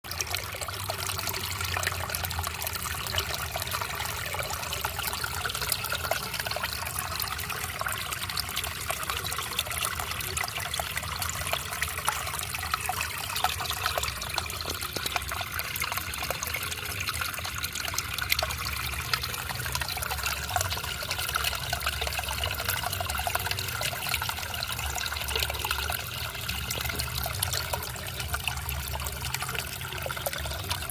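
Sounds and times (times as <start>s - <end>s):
water trickling and splashing: 0.0s - 30.9s.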